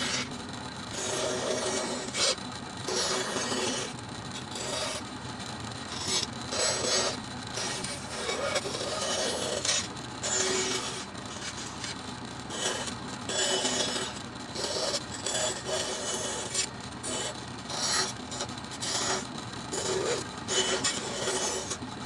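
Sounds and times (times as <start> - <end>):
rasp filing wood: 0.0 - 5.1, 5.8 - 21.9.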